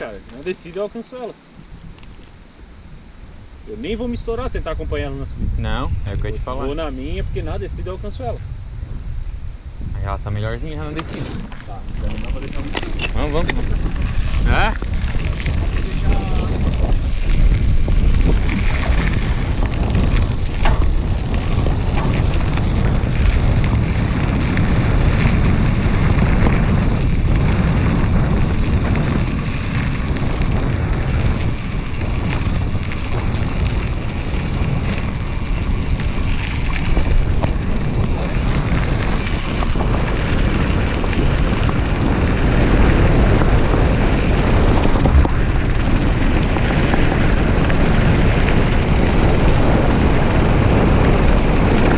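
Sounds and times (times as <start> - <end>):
bike ticks and rattles: 0.0 - 51.9
wind buffeting microphone: 0.0 - 51.9.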